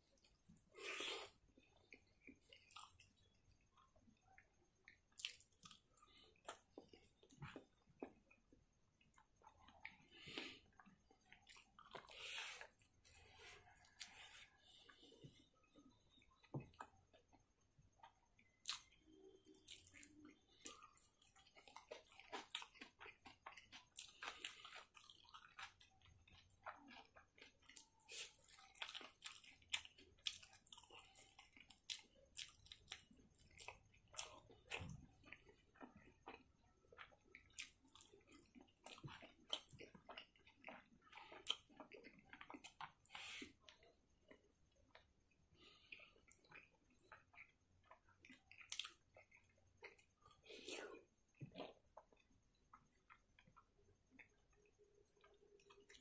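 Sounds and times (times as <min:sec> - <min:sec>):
chewing and mouth smacking: 0:00.0 - 0:56.0.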